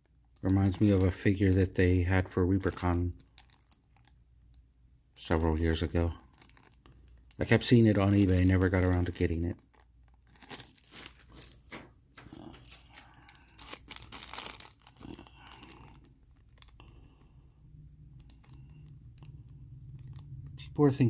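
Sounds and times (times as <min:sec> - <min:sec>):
plastic bag crinkling: 0:00.0 - 0:04.6, 0:05.2 - 0:21.0.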